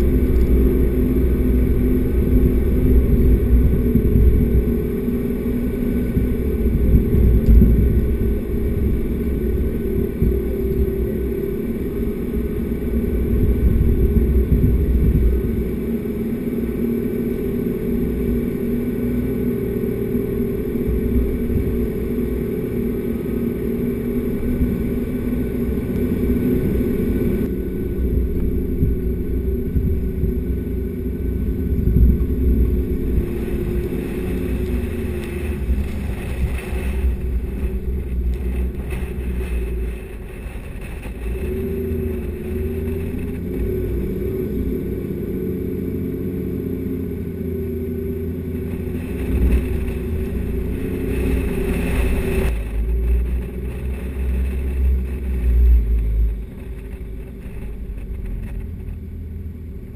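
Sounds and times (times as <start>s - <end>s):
vehicle engine and tyre rumble: 0.0s - 59.9s.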